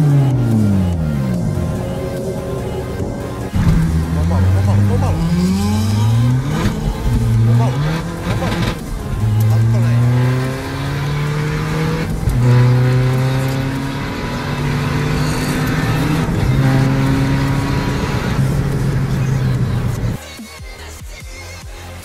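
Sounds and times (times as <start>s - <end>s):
diesel engine accelerating: 0.0s - 20.2s.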